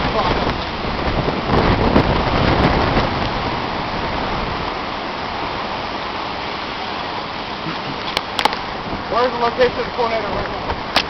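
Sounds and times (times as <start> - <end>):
heavy rain falling: 0.0 - 11.0
wind buffeting microphone: 0.0 - 11.0.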